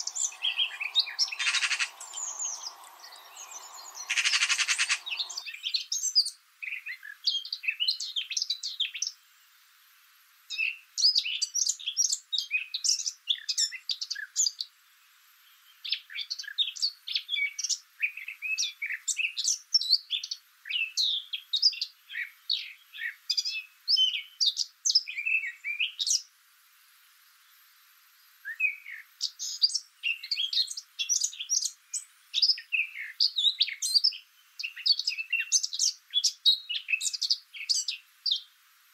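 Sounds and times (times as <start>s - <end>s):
small birds chirping: 0.0s - 9.5s, 10.5s - 38.6s.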